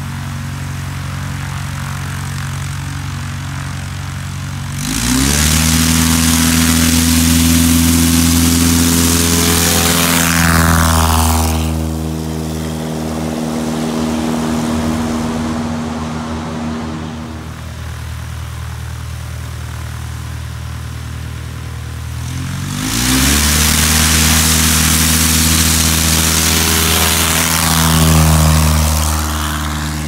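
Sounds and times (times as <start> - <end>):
propeller plane engine: 0.0 - 30.0.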